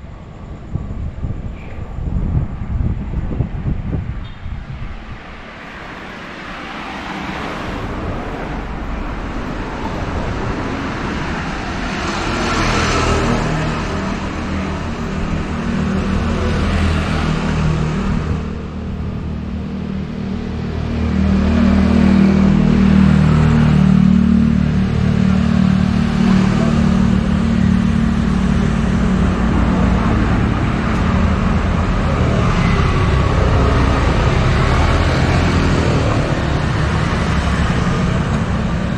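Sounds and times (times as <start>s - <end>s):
steady engine sound: 0.0s - 38.9s
vehicles passing close by: 0.0s - 38.9s.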